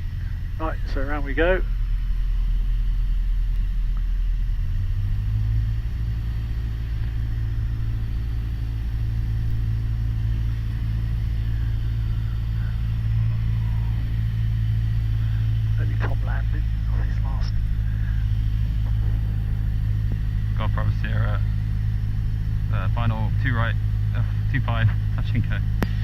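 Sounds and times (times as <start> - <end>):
aircraft engine and propeller droning: 0.0 - 26.0.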